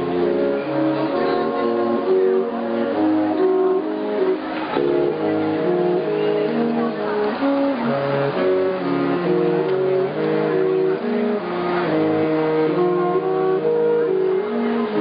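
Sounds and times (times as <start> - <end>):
music of held chords: 0.0 - 15.0.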